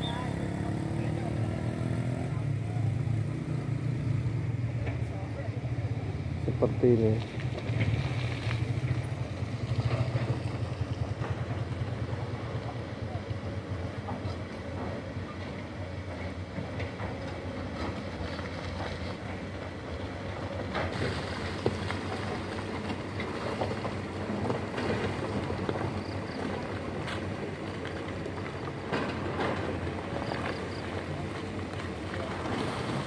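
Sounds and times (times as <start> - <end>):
distant excavator engines running: 0.0 - 33.0.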